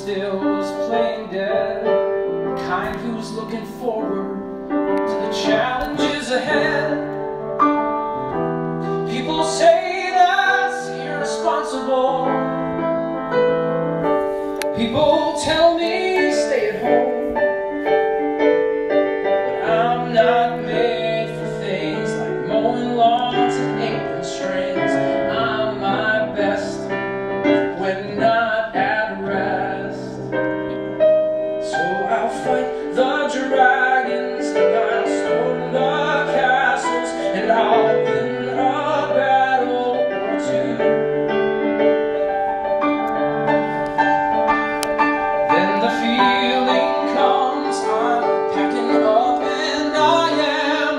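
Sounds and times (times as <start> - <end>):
man singing a ballad: 0.0 - 13.5, 14.6 - 18.1, 19.2 - 42.2, 44.7 - 50.9
grand piano chords: 0.0 - 50.9.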